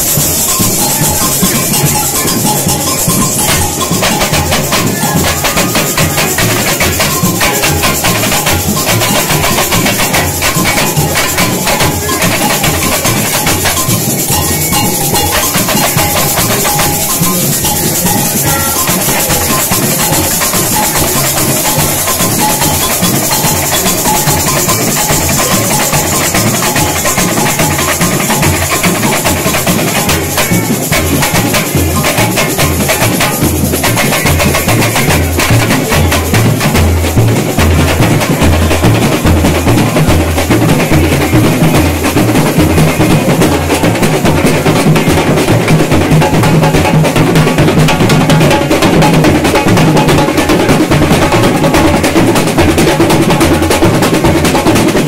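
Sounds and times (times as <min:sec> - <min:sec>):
samba drum band: 0:00.0 - 0:55.0.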